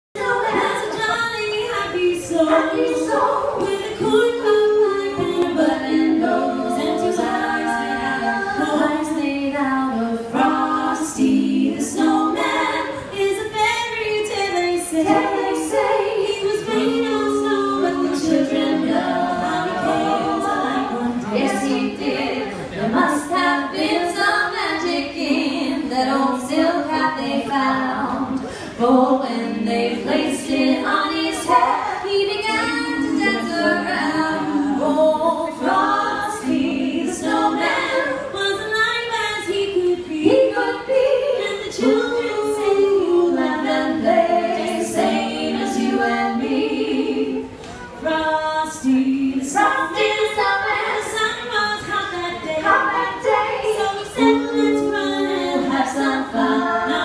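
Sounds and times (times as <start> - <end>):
women singing a cappella harmony: 0.2 - 57.0.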